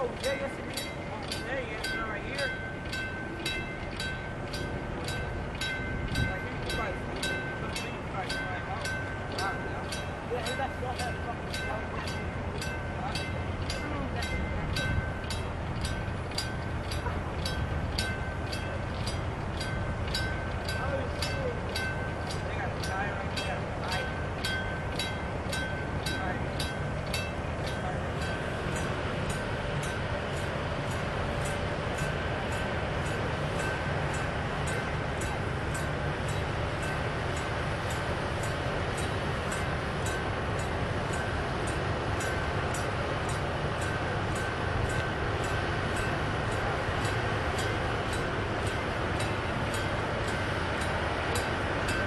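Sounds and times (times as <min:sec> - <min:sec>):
diesel engine rumble: 0:00.0 - 0:52.0
warning bells ringing: 0:00.0 - 0:52.0.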